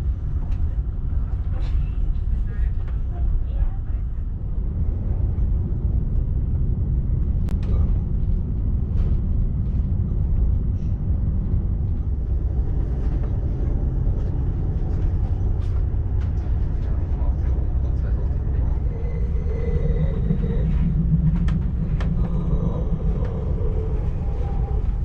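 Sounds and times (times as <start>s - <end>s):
train coach rumbling on track: 0.0s - 25.0s.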